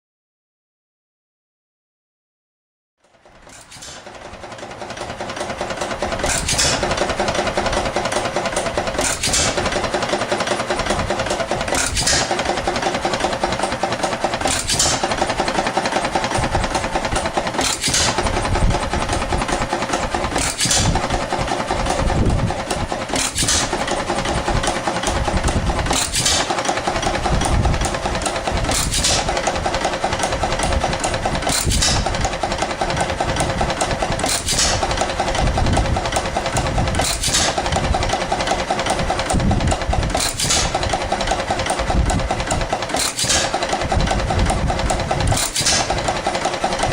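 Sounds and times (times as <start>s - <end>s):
engine mechanical clatter: 3.0s - 46.9s.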